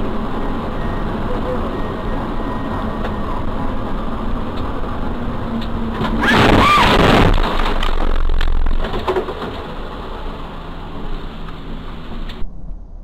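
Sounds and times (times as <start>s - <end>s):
road and rain noise in car: 0.0s - 12.5s
low rumble: 1.8s - 13.0s.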